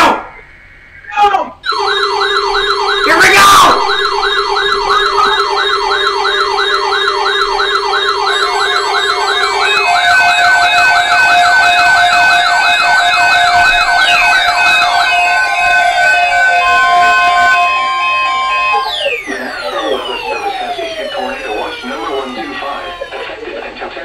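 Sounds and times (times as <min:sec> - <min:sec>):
steady alert tones: 0:01.6 - 0:23.2
warbling siren tone: 0:01.6 - 0:23.4.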